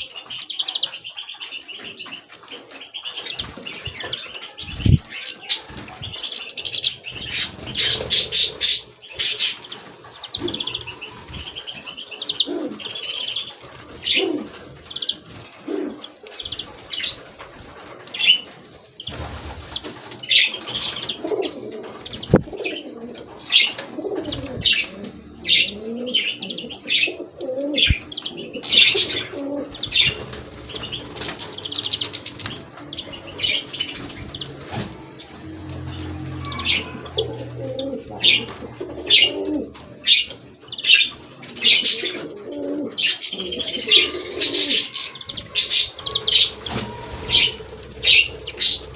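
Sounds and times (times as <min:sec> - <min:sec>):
wings fluttering: 0:00.0 - 0:25.6, 0:27.5 - 0:42.4, 0:43.0 - 0:48.9
finches chirping and twittering: 0:00.0 - 0:48.9
pigeons cooing: 0:00.0 - 0:48.9.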